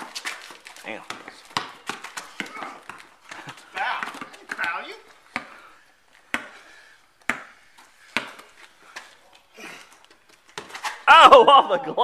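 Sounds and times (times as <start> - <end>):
basketball bouncing on pavement: 0.0 - 9.2, 9.8 - 11.1.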